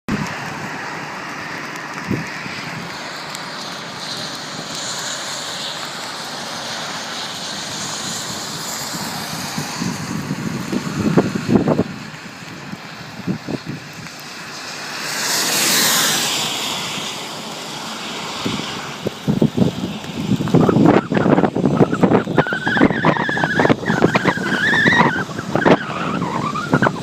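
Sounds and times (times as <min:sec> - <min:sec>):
rain and wind rushing: 0:00.1 - 0:27.0.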